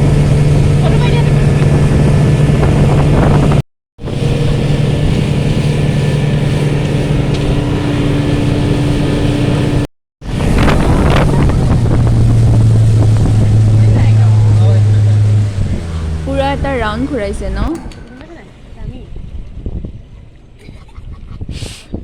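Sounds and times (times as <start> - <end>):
motorboat engine running: 0.0 - 21.5
wind buffeting microphone: 0.0 - 22.0.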